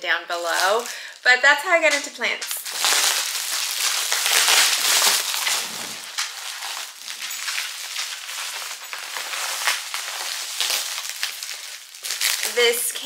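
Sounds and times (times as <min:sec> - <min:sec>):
foil mailer crinkling: 0:00.3 - 0:13.0.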